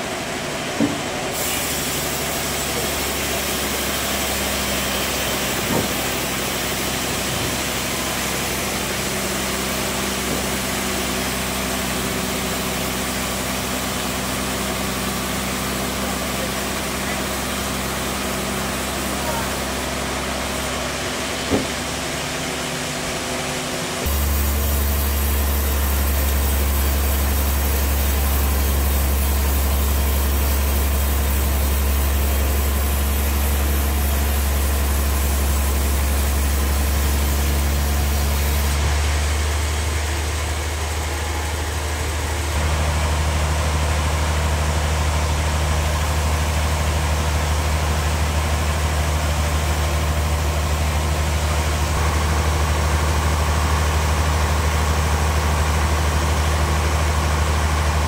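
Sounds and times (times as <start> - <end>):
bandsaw mill humming: 0.0 - 58.0.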